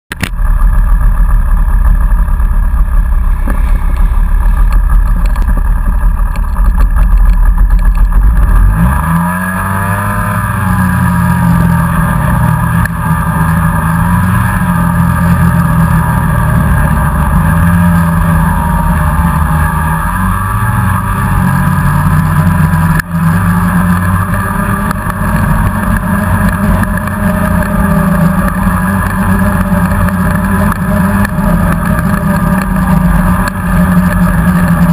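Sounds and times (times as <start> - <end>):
snowmobile engine running: 0.1 - 34.9.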